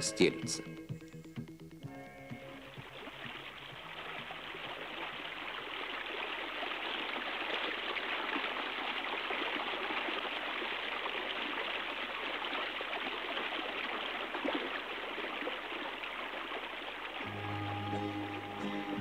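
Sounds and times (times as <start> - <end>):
river water rushing: 2.7 - 19.0.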